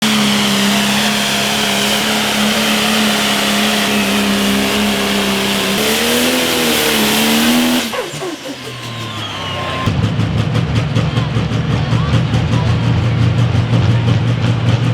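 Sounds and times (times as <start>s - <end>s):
tractor diesel engine at full power: 0.0s - 14.9s.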